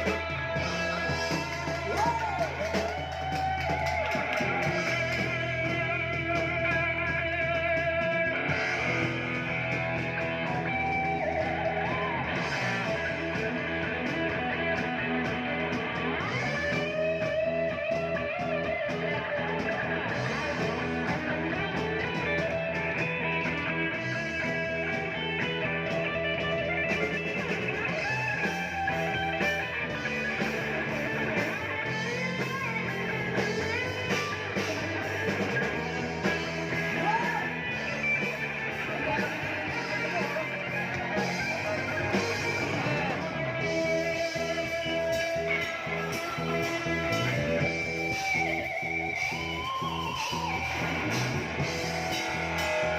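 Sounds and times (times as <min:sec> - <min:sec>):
electric guitar lead with bends: 0:00.0 - 0:52.9
rock band music: 0:00.0 - 0:52.9.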